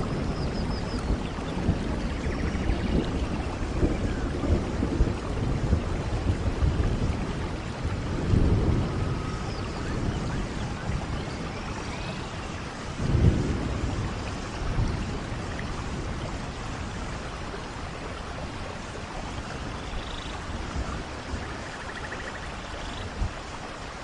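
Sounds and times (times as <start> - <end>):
low thunder rumble: 0.0 - 23.6
steady rainfall: 0.0 - 24.0.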